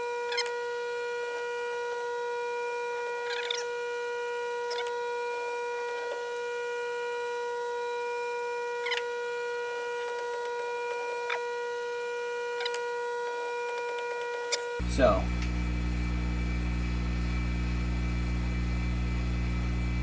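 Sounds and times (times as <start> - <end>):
steady high-pitched hum: 0.0 - 20.0.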